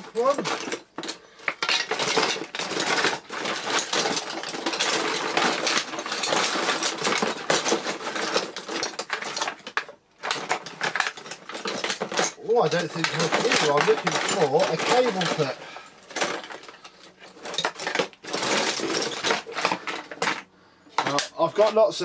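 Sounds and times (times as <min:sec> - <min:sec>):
metal tools clattering in toolbox: 0:00.0 - 0:21.8.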